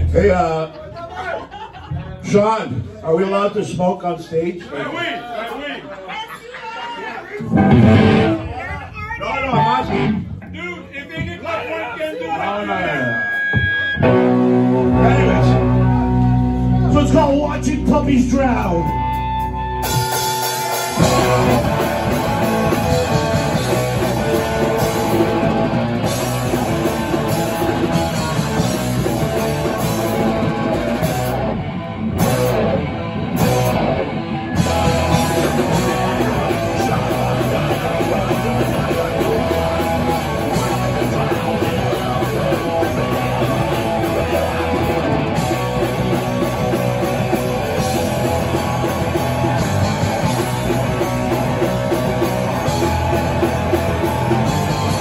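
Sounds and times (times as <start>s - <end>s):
heavy rock band playing: 0.0s - 0.8s, 7.4s - 10.6s, 12.8s - 55.0s
drums: 0.0s - 4.4s, 5.4s - 55.0s
electric guitars: 7.4s - 10.5s, 12.9s - 55.0s.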